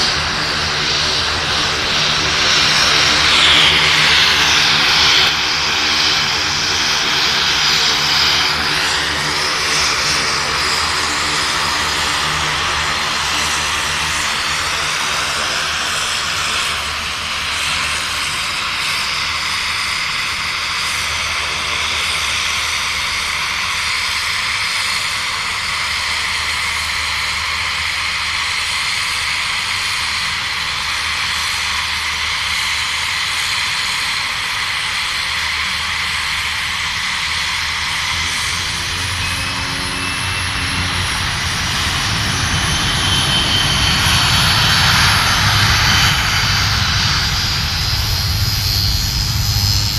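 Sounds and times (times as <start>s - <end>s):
aircraft turbine engines whining: 0.0s - 49.9s.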